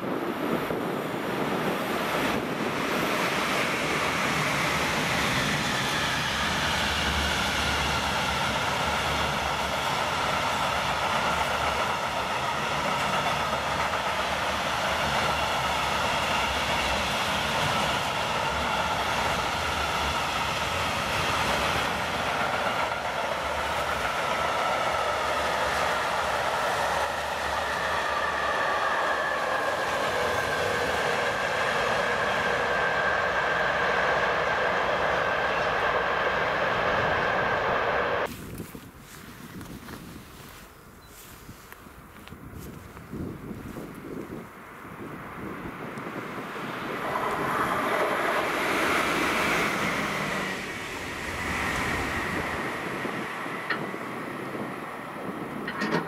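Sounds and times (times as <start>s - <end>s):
freight train rumbling on rails: 0.0s - 38.4s, 42.4s - 56.0s.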